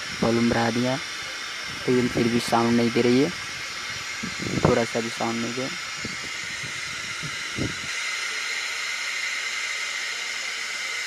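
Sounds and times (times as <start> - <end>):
loudspeaker hiss: 0.0 - 11.0.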